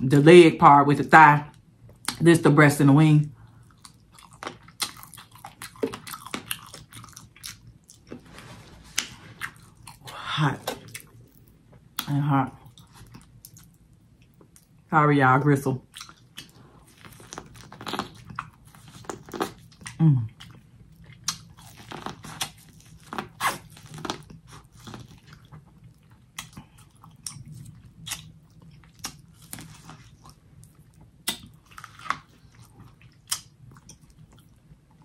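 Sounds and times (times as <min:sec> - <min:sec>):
person chewing and smacking: 0:03.5 - 0:14.9, 0:15.8 - 0:35.0.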